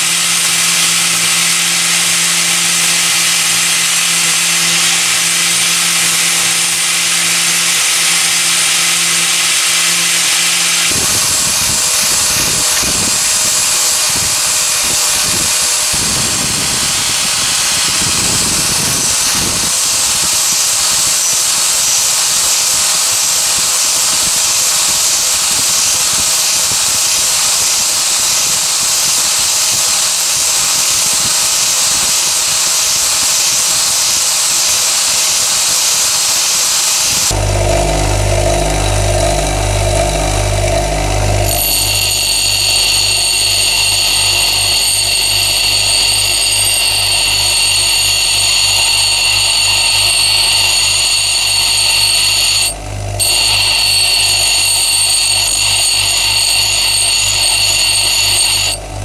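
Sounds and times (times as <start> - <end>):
angle grinder sanding wood: 0.0 - 59.0.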